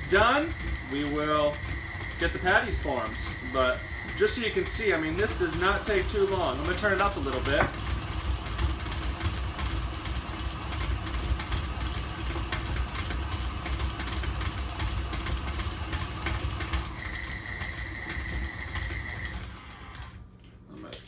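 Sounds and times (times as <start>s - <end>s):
stand mixer motor humming: 0.0s - 20.3s.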